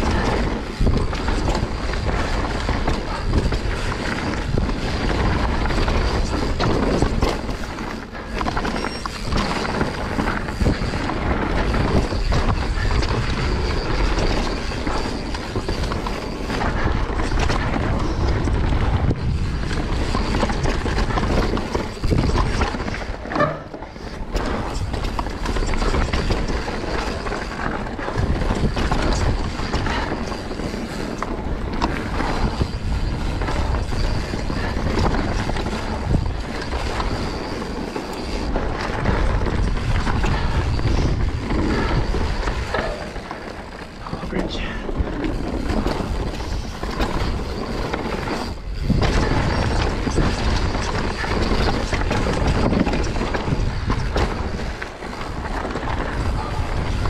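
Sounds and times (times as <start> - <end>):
bike rattling and clattering: 0.0 - 57.0
tyre roar on dirt: 0.0 - 57.0
wind rush on microphone: 0.0 - 57.0.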